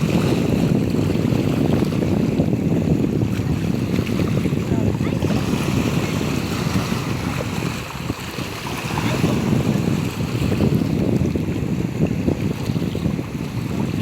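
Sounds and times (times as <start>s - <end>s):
sea waves: 0.0s - 14.0s
wind buffeting microphone: 0.0s - 14.0s.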